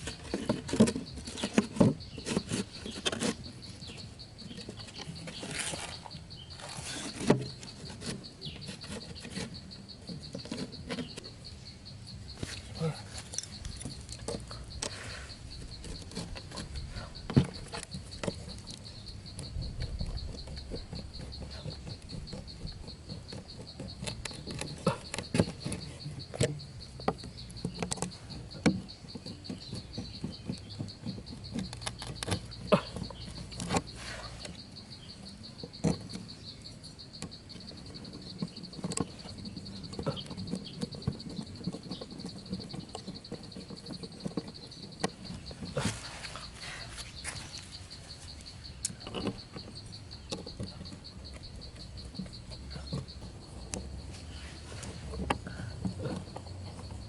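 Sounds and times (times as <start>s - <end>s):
high pulsing insect trill: 0.0s - 57.0s
sharp clicks and light scrapes: 0.0s - 57.0s.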